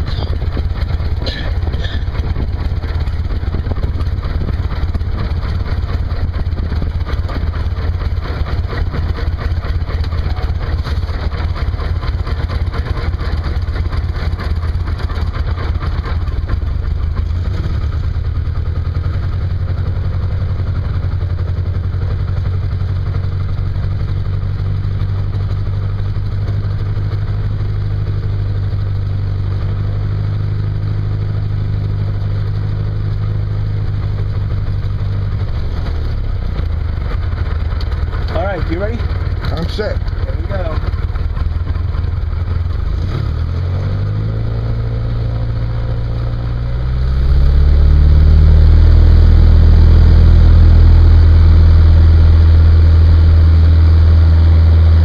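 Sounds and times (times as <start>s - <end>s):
propeller aircraft engine idling: 0.0s - 55.0s.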